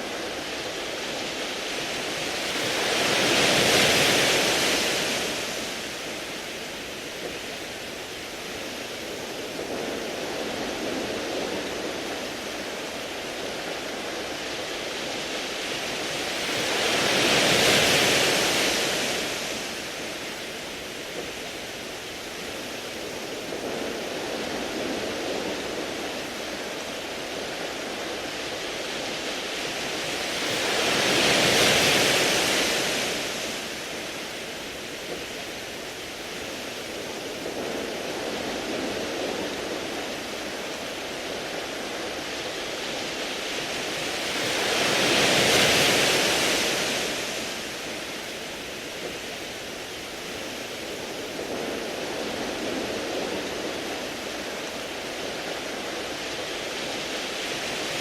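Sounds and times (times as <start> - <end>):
waves washing over pebbles: 0.0 - 58.0.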